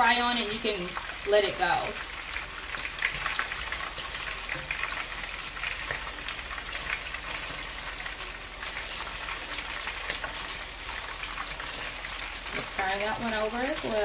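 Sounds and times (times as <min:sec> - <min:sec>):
food deep-frying in oil: 0:00.0 - 0:14.0.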